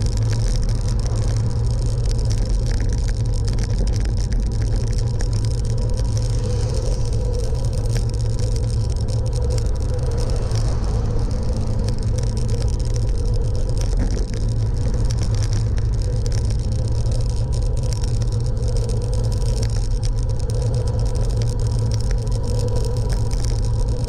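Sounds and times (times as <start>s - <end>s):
steady mechanical hum: 0.0s - 24.0s
vehicle low rumble: 0.0s - 24.0s.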